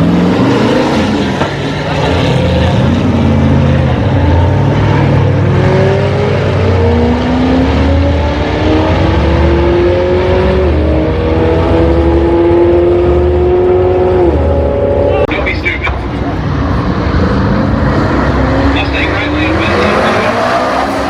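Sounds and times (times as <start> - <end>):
car engine at full throttle: 0.0 - 21.0.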